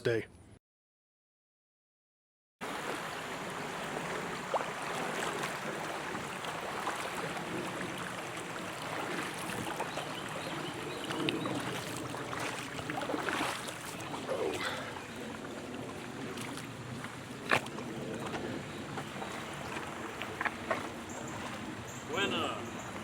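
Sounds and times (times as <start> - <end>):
creek water running: 2.6 - 23.0.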